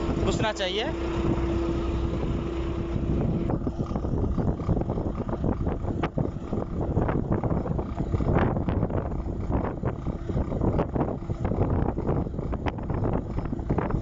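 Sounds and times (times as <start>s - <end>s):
diesel engine running: 0.0s - 14.0s
thin steady whine: 0.0s - 14.0s
wind buffeting microphone: 0.0s - 14.0s.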